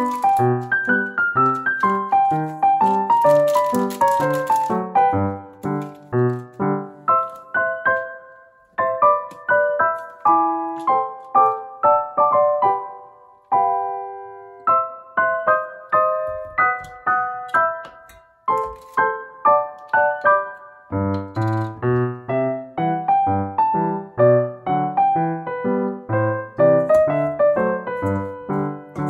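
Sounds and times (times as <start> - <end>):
piano keyboard melody: 0.0 - 29.0.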